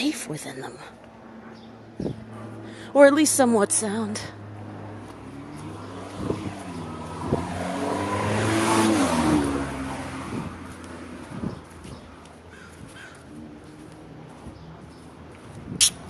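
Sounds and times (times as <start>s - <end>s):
motor vehicle passing by: 0.8s - 16.0s.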